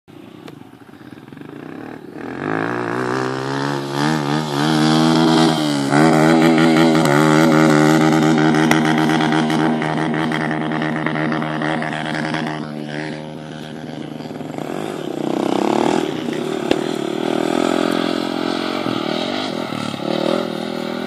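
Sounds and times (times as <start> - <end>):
dirt bike engine running: 0.1 - 21.0.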